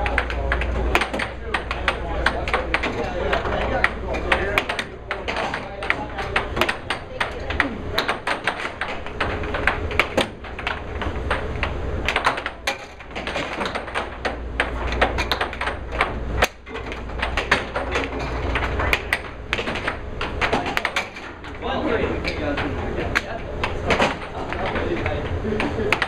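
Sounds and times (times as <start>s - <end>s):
air blower hum: 0.0s - 26.0s
air hockey puck clacking: 0.0s - 26.0s.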